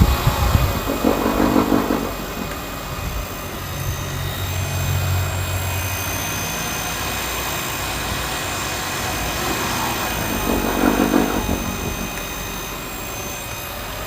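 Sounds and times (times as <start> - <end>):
car low steady hum: 0.0 - 13.5.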